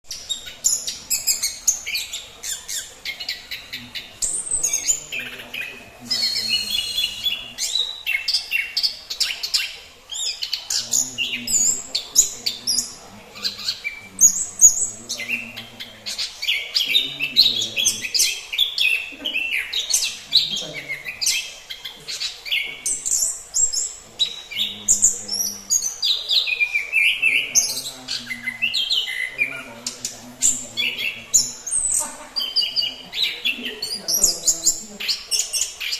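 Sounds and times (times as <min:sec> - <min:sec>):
thrush singing high chirps: 0:00.0 - 0:35.9.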